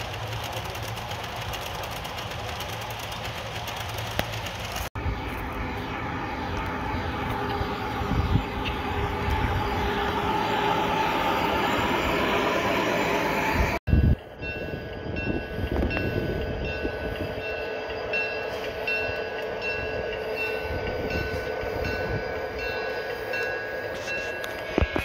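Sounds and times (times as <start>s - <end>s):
model train humming and ticking: 0.0s - 25.0s.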